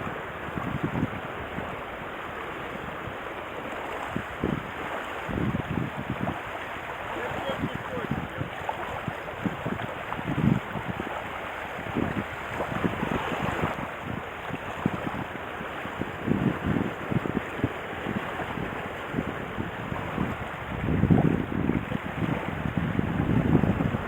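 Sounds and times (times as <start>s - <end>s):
rushing water: 0.0s - 24.0s
wind buffeting microphone: 0.0s - 24.0s.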